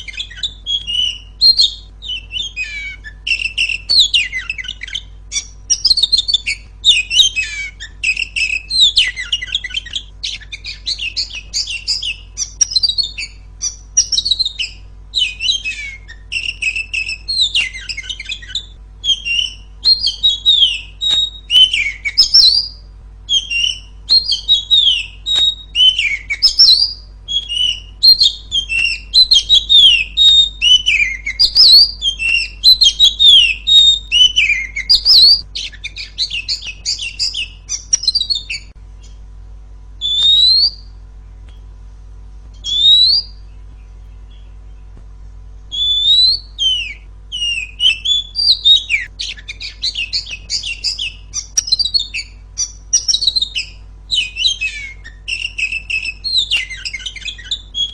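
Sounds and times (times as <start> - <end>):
bird singing chirps and trills: 0.0 - 39.3, 40.0 - 41.7, 42.5 - 45.0, 45.6 - 57.9.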